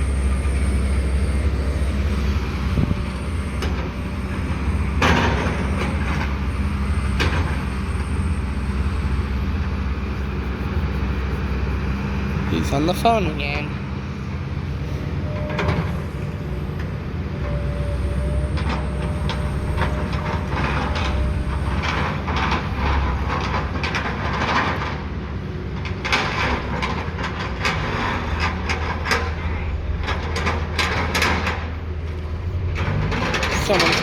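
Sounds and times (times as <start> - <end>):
heavy machinery humming: 0.0 - 34.0.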